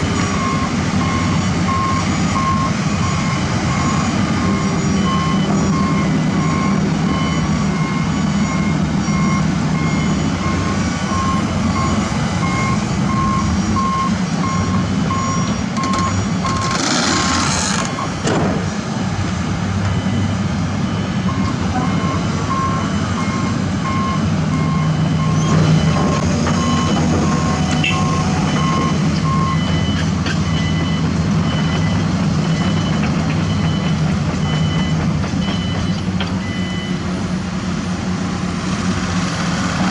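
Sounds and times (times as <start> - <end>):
diesel construction machinery running: 0.0 - 39.9
back-up alarms beeping: 0.1 - 18.2, 20.9 - 37.0.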